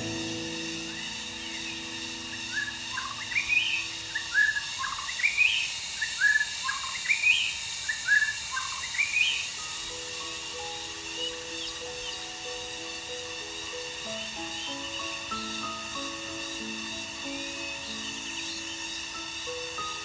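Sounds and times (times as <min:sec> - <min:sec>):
steady high drone: 0:00.0 - 0:06.8, 0:07.7 - 0:20.0
bird singing whistled phrase: 0:00.0 - 0:20.0.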